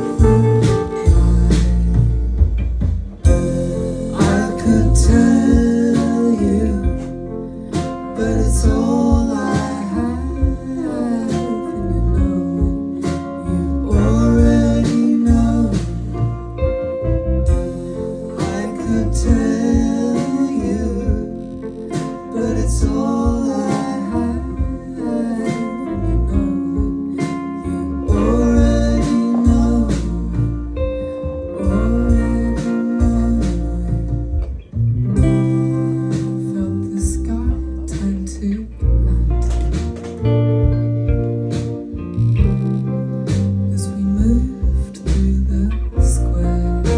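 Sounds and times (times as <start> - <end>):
bass: 0.0 - 46.9
drums: 0.0 - 46.9
guitar: 0.0 - 46.9
person singing: 3.3 - 34.6, 35.2 - 40.2, 42.2 - 46.9.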